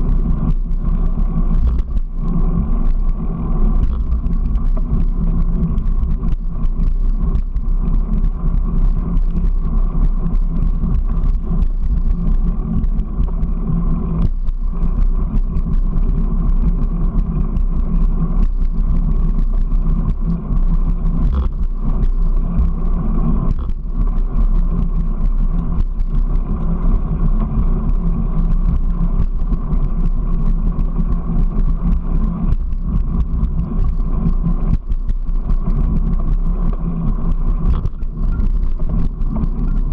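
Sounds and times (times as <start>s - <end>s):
small vehicle rumbling on concrete: 0.0s - 39.9s
wind noise on camera: 0.0s - 39.9s.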